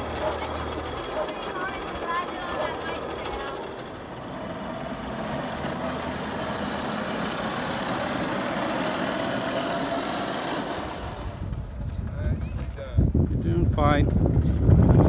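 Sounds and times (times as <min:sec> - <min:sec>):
plastic wheels rolling on pavement: 0:00.0 - 0:12.8.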